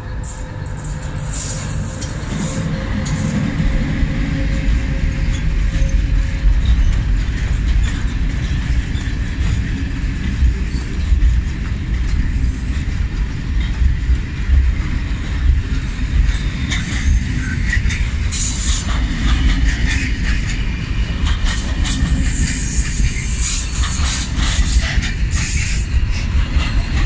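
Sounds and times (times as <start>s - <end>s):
faint locomotive hum: 0.0s - 27.0s
train wheels rumbling on rail: 0.0s - 27.0s.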